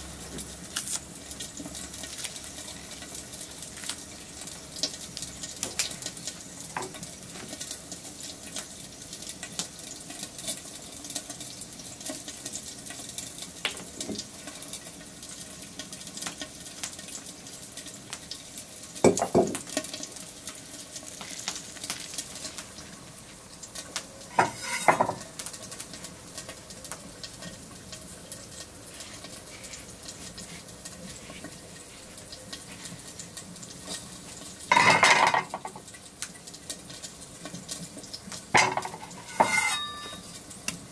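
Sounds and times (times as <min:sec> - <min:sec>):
wood fire crackling: 0:00.0 - 0:34.7, 0:35.4 - 0:40.9.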